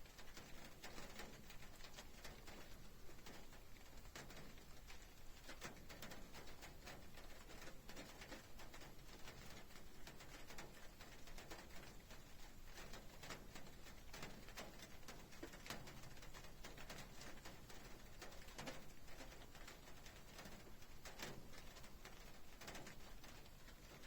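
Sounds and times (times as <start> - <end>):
raindrops tapping on surface: 0.0 - 24.0
steady rain hiss: 0.0 - 24.0.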